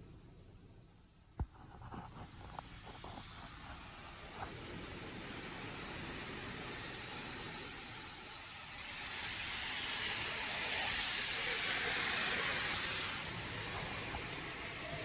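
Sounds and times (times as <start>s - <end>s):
car wash spray and brushes hissing: 1.4s - 15.0s.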